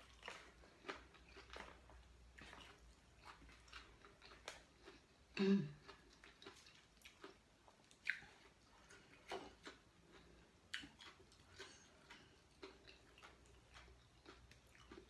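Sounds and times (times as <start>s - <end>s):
faint chewing of food: 0.0s - 15.0s.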